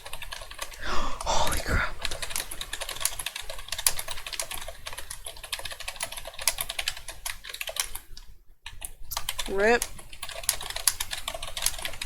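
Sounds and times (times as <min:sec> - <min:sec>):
computer keyboard typing: 0:00.0 - 0:12.0.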